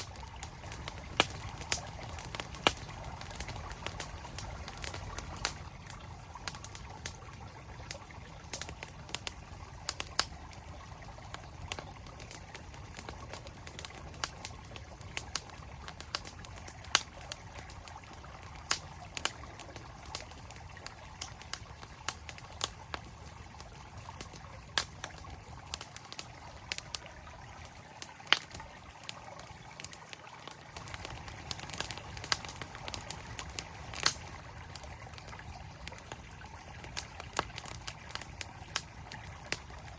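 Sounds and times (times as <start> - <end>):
campfire crackling and popping: 0.0 - 39.9
stream flowing: 0.0 - 39.9.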